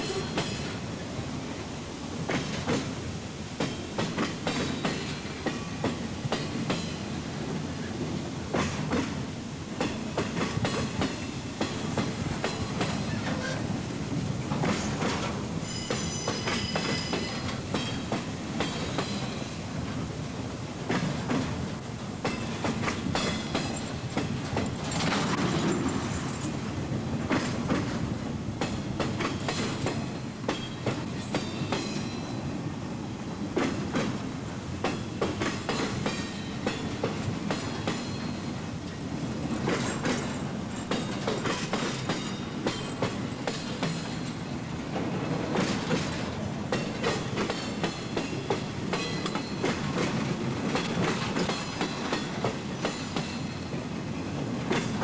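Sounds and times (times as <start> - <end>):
train wheels rumbling on rail: 0.0 - 55.0
wheels clacking over rail joints: 3.6 - 7.9, 8.5 - 9.2, 9.8 - 20.0, 20.8 - 32.4, 33.5 - 55.0.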